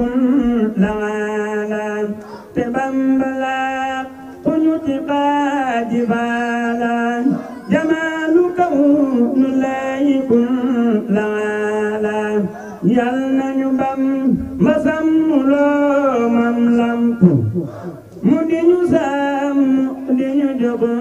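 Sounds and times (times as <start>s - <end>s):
man singing chant into microphone: 0.0s - 21.0s.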